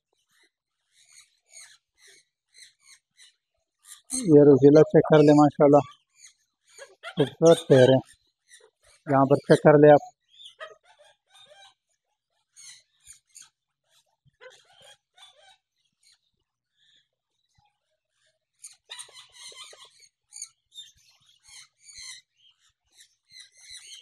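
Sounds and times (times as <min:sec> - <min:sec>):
parrots squawking and chirping: 0:00.2 - 0:16.3, 0:18.1 - 0:24.0.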